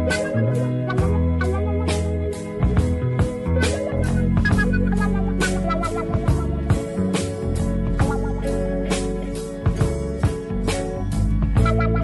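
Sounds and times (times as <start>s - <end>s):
guitar: 0.0s - 12.0s
steady drum beat: 0.0s - 12.0s.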